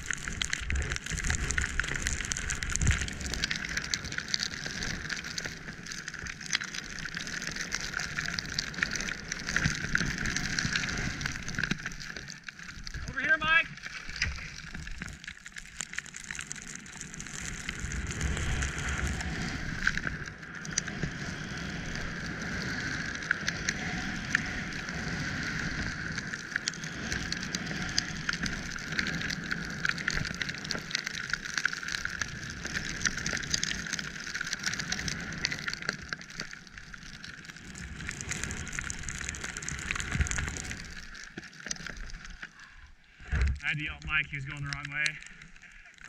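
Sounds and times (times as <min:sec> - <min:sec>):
skis rushing through snow: 0:00.0 - 0:13.6, 0:16.0 - 0:41.5.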